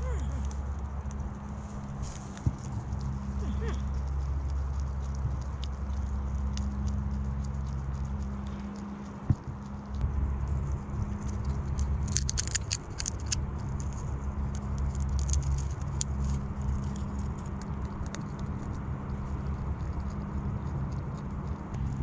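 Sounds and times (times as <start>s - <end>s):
animal chewing crunchy food: 0.0s - 22.0s
steady low hum: 0.0s - 22.0s.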